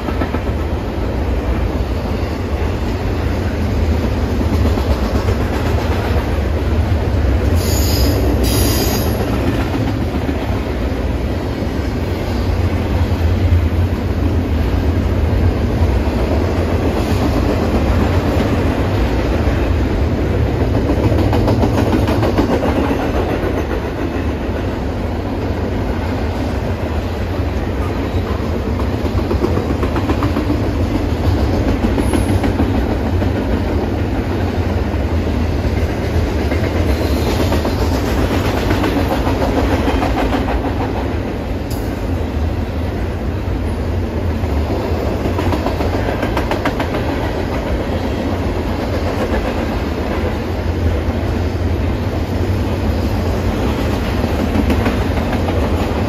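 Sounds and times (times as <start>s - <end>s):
train wheels clicking over rail joints: 0.0s - 14.8s, 15.7s - 42.7s, 44.4s - 56.0s
train rumble: 0.0s - 56.0s.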